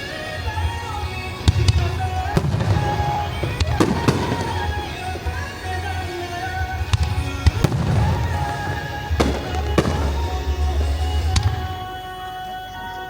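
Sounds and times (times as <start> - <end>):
fireworks bangs: 0.0 - 12.2
pop song over loudspeakers: 0.0 - 13.0.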